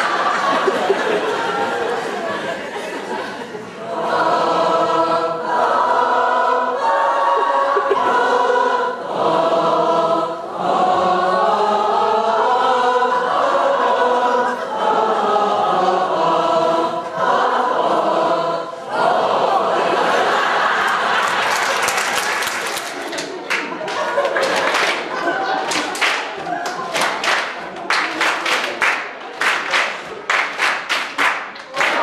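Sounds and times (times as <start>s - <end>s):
crowd singing together: 0.0s - 30.5s, 31.6s - 32.0s.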